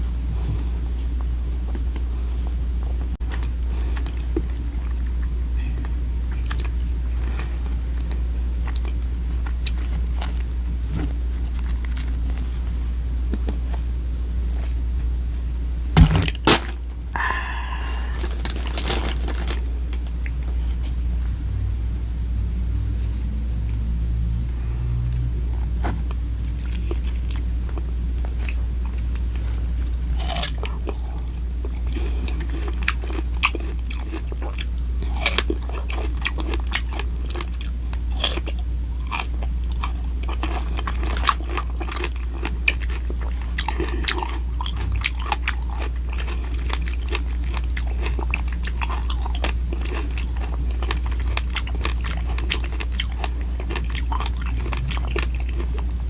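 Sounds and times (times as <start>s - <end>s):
food being bitten and chewed: 0.0s - 21.1s, 24.8s - 56.0s
steady low hum: 0.0s - 56.0s.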